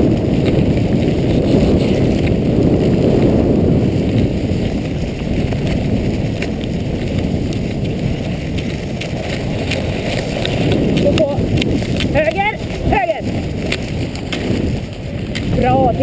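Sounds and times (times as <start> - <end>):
skis sliding on snow: 0.0 - 16.0
wind buffeting microphone: 0.0 - 16.0.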